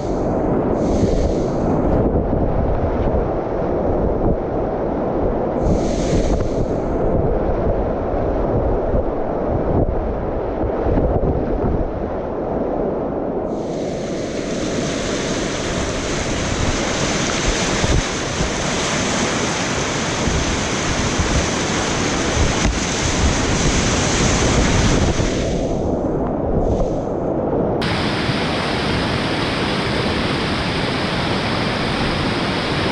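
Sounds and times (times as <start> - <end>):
whitewater roaring: 0.0 - 10.6, 13.5 - 27.2, 27.8 - 32.9
wind buffeting microphone: 0.0 - 32.9.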